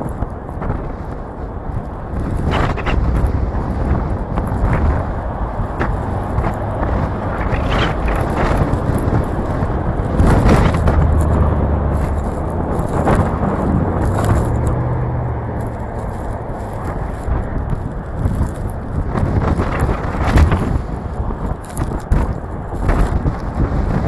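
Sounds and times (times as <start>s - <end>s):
car driving road noise: 0.0s - 24.0s
wind rushing over microphone: 0.0s - 24.0s.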